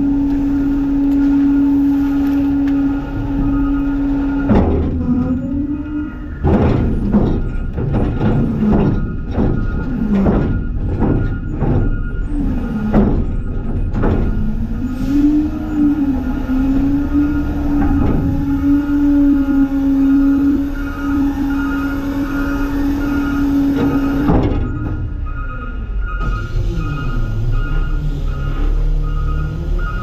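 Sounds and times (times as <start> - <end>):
bangs and clanks of dumping: 0.0 - 30.0
garbage truck whine: 0.0 - 30.0.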